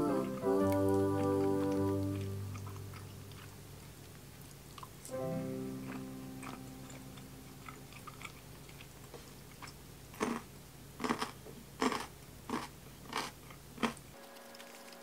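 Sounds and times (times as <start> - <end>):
crunchy chewing: 0.0 - 5.1, 5.8 - 15.0.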